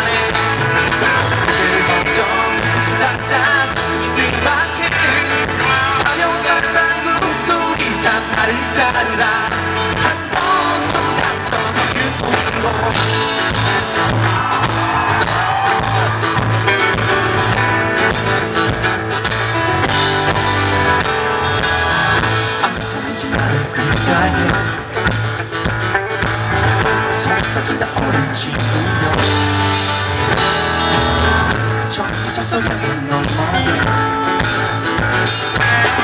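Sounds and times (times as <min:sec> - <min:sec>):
person singing: 0:00.0 - 0:17.7, 0:19.7 - 0:25.0, 0:26.6 - 0:36.0
drums: 0:00.0 - 0:36.0
electric bass: 0:00.0 - 0:36.0
electric guitar: 0:00.0 - 0:36.0.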